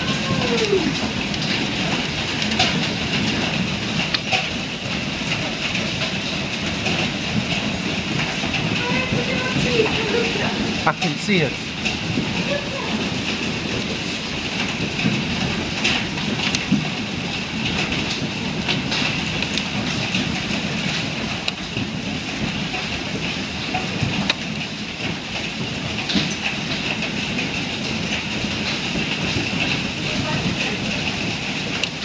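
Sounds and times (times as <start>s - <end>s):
heavy hail clattering: 0.0s - 32.0s.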